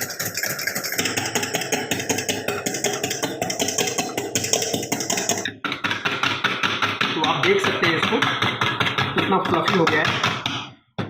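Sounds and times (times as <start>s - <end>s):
whisk clicking against bowl: 0.0s - 10.3s.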